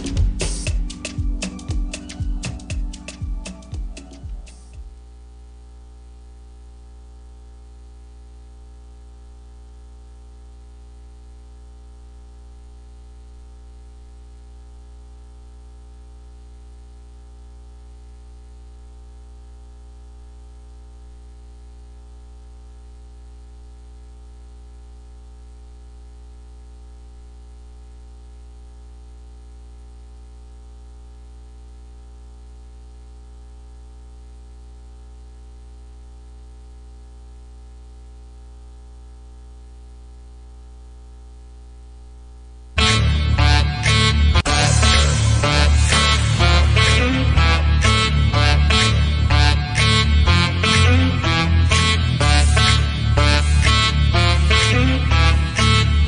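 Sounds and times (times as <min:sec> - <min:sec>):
electrical hum and buzz: 0:00.0 - 0:56.0.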